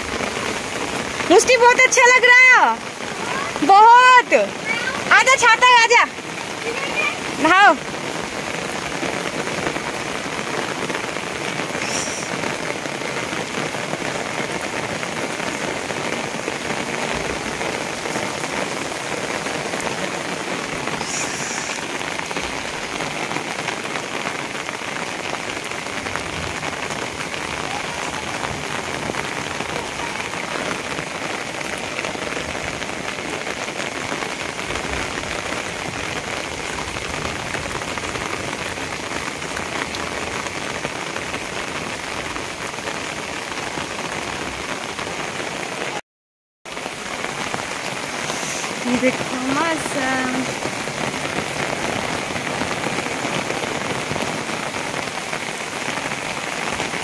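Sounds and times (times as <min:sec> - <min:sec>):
rain on concrete and trees: 0:00.0 - 0:46.0, 0:46.6 - 0:57.0.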